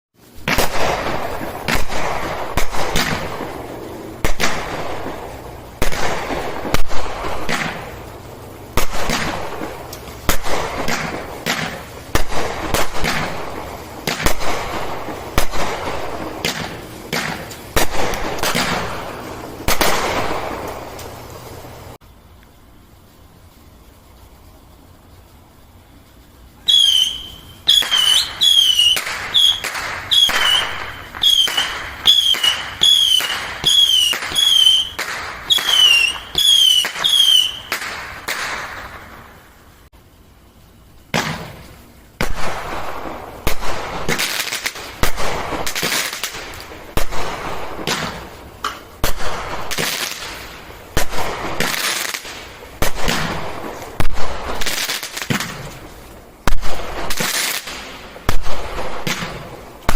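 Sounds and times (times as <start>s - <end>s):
whistling firework shots: 0.2s - 22.2s, 25.1s - 39.8s, 41.1s - 59.9s
firework bangs and crackles: 0.2s - 59.9s.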